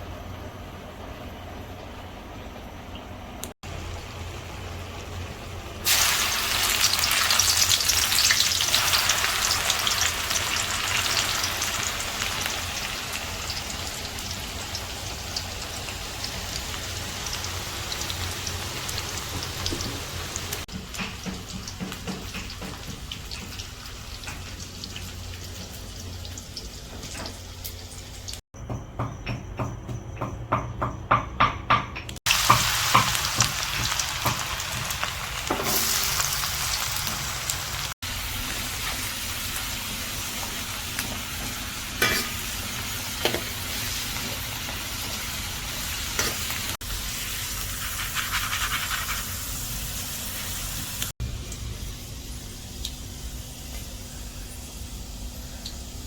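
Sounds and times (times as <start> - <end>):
vegetables sizzling in a pan: 3.7 - 28.4, 32.3 - 56.0.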